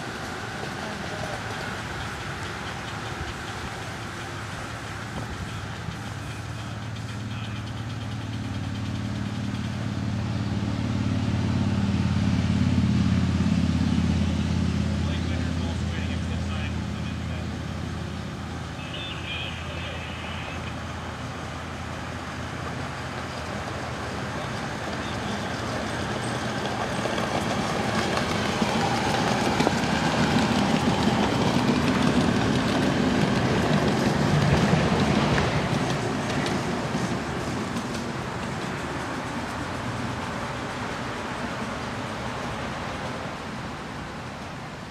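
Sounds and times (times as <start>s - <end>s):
low train rumble: 0.0s - 44.9s
steam locomotive passing: 0.0s - 44.9s.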